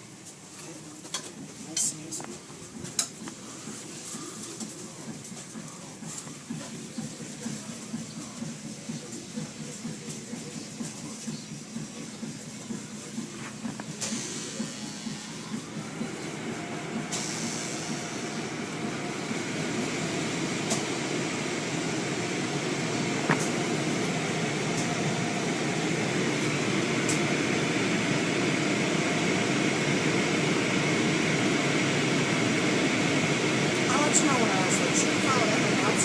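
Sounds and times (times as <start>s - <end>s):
car wash machinery rushing: 3.7s - 36.0s.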